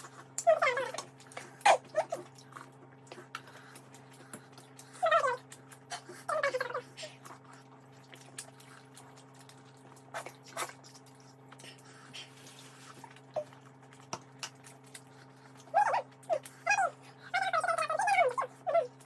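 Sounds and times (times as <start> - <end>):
chewing and utensil clicks: 0.0 - 6.0, 7.2 - 12.3, 13.0 - 19.0
low electrical hum: 0.0 - 19.0.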